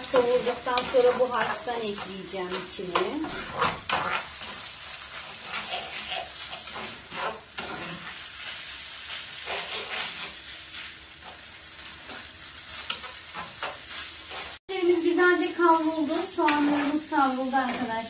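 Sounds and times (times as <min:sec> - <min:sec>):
spatula stirring and scraping: 0:00.0 - 0:14.6, 0:16.1 - 0:18.0
rice and onions sizzling in pan: 0:00.0 - 0:18.0.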